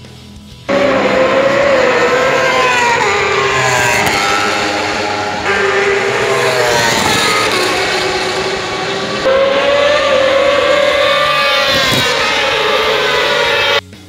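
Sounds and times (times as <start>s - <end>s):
racing motorcycles passing at high revs: 0.7s - 13.8s.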